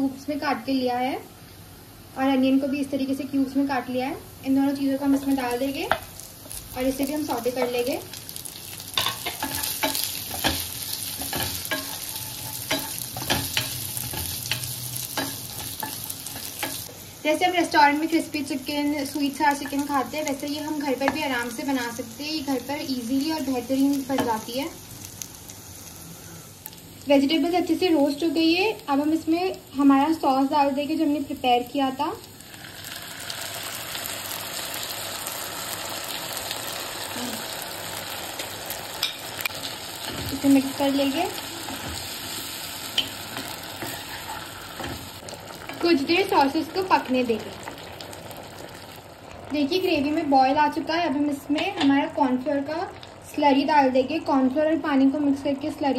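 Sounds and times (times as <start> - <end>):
vegetables sizzling in oil: 0.0 - 55.9.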